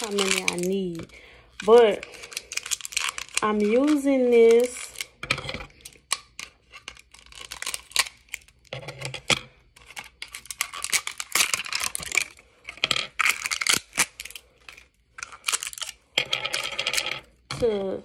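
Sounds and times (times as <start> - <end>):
plastic packaging crinkling: 0.0 - 17.4.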